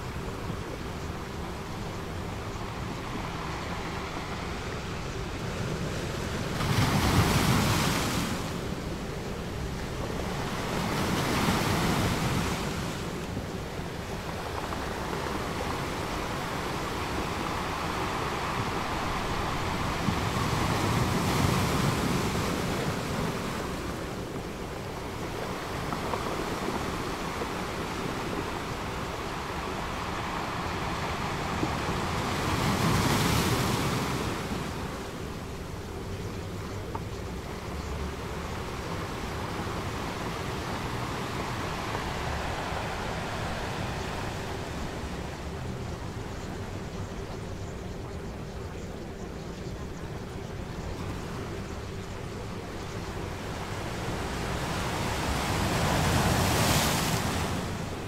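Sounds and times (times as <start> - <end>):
ocean waves surging: 0.0 - 36.6, 37.4 - 46.9, 50.9 - 58.0.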